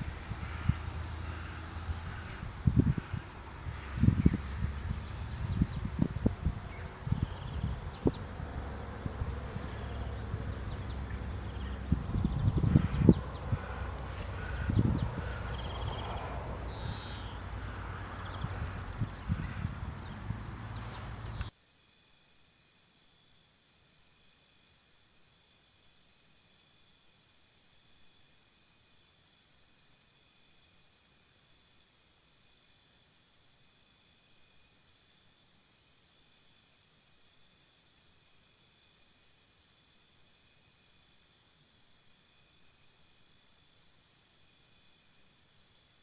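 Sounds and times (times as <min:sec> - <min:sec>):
insects chirping in trills: 0:00.0 - 0:46.0.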